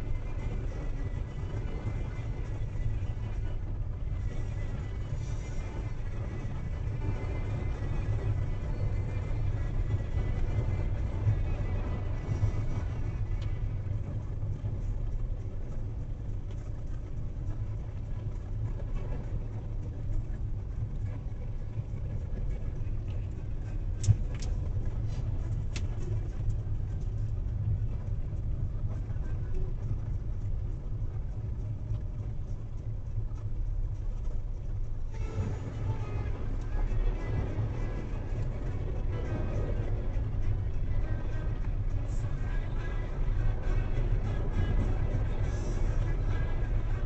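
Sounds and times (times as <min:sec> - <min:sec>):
engine and tyres rumbling: 0:00.0 - 0:47.0.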